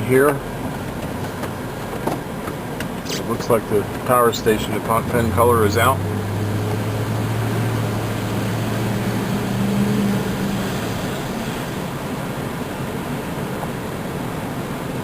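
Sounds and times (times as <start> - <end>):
car engine hum: 0.0 - 15.0
road noise: 0.0 - 15.0.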